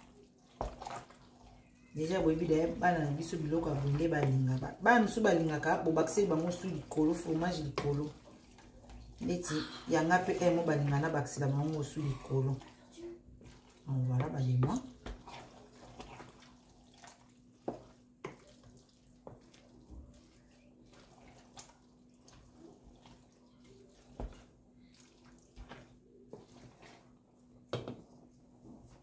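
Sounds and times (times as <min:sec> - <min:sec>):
spoon stirring wet pasta: 0:00.0 - 0:29.0.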